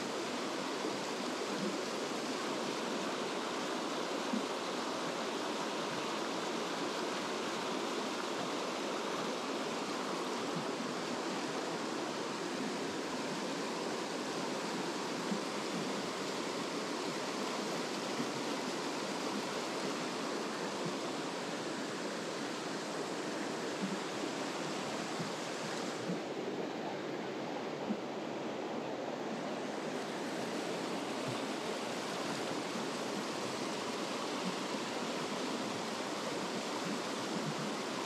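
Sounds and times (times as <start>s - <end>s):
mountain stream rapids rushing: 0.0s - 38.0s.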